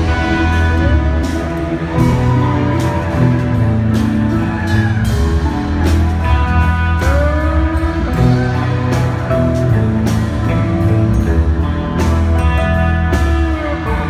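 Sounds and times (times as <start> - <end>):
guitar: 0.0 - 14.0
live band music: 0.0 - 14.0
strong bass line: 0.0 - 14.0.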